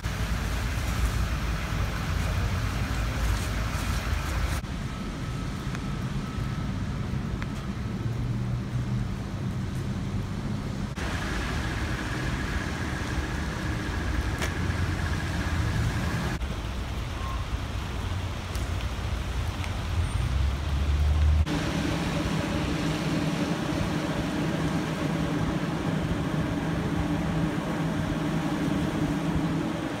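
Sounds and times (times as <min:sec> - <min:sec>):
traffic on wet roads: 0:00.0 - 0:30.0.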